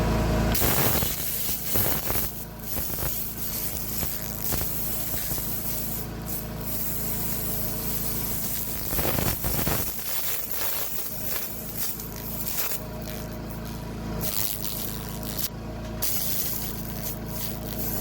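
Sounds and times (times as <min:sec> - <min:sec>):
laser unit humming: 0:00.0 - 0:18.0
laser hissing and sizzling: 0:00.6 - 0:18.0.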